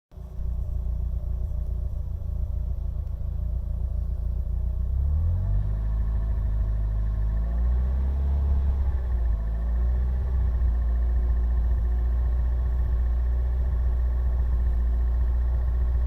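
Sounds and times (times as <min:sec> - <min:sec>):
vehicle engine rumbling: 0:00.1 - 0:16.0.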